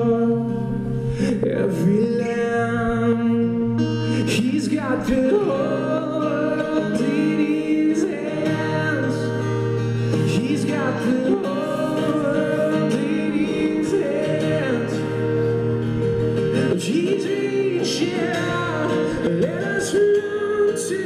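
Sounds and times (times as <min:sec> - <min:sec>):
acoustic guitar: 0:00.0 - 0:21.0
person singing long sliding notes: 0:00.0 - 0:21.0.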